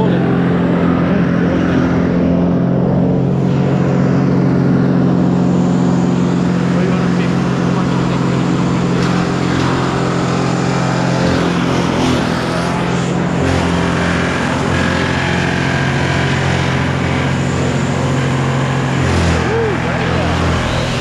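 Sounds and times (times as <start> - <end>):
large engine running: 0.0 - 21.0
machinery hum: 0.0 - 21.0.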